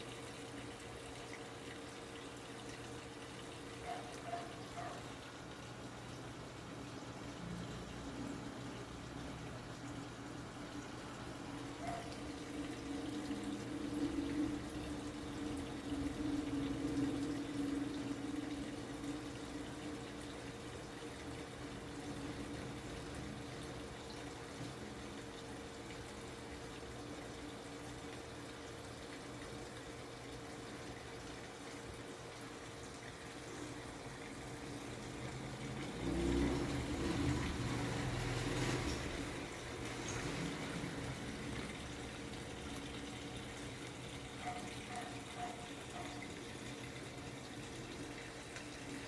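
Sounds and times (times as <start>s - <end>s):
washing machine filling with water: 0.0s - 49.0s.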